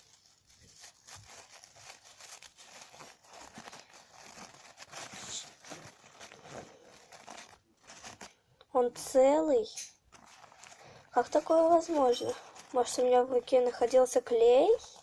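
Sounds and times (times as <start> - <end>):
paper crinkling and rustling: 0.0 - 8.4, 9.7 - 15.0.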